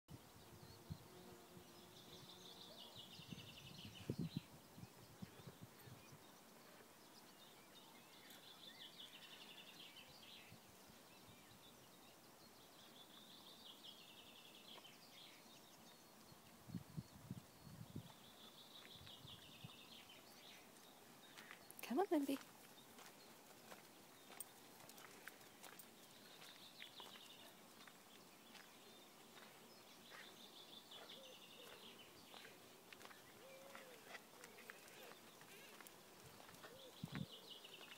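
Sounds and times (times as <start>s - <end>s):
outdoor background hiss: 0.1s - 37.9s.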